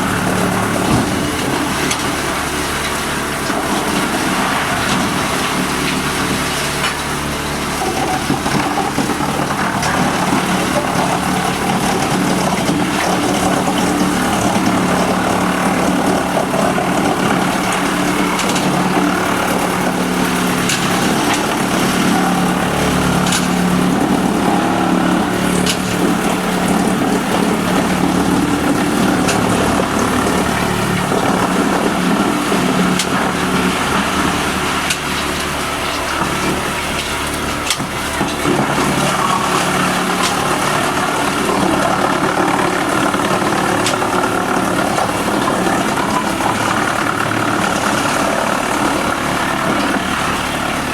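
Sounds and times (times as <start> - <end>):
wood chipper engine humming: 0.0 - 50.9.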